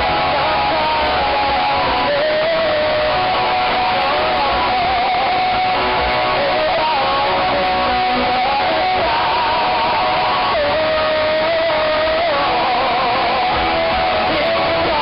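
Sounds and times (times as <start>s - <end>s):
pop-rock band through speakers: 0.0s - 15.0s.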